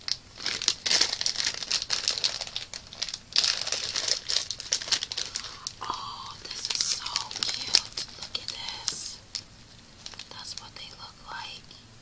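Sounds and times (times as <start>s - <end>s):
plastic snack packet crinkling: 0.0s - 11.0s.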